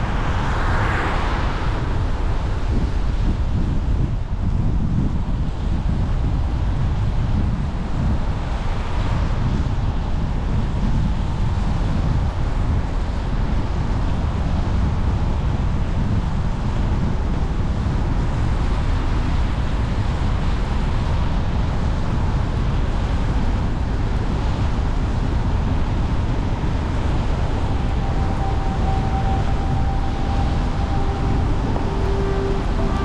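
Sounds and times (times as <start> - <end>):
car tyres and engine rumble: 0.0 - 33.0
wind noise: 0.0 - 33.0.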